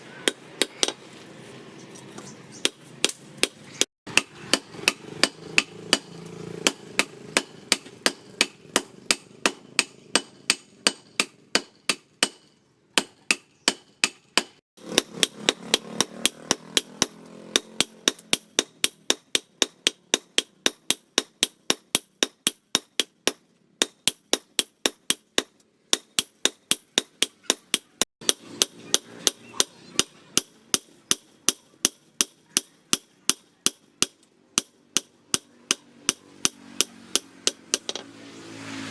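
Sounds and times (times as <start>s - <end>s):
hammer striking steel on anvil: 2.6s - 38.1s.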